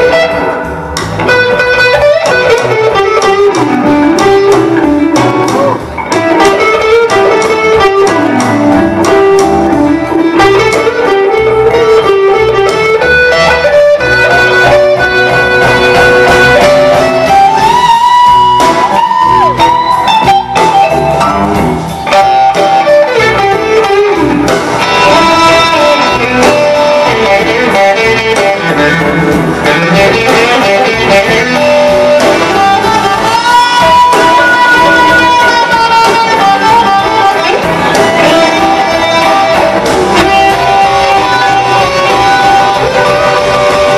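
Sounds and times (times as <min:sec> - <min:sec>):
bass: 0:00.0 - 0:43.9
drums: 0:00.0 - 0:43.9
electric guitar lead: 0:00.0 - 0:43.9.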